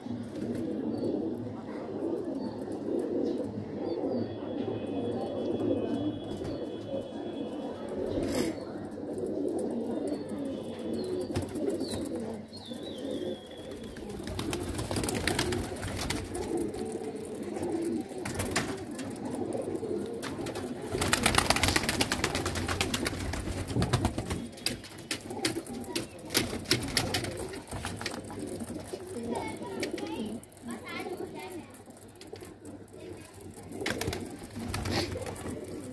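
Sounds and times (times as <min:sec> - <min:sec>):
pigeons cooing: 0:00.0 - 0:35.9.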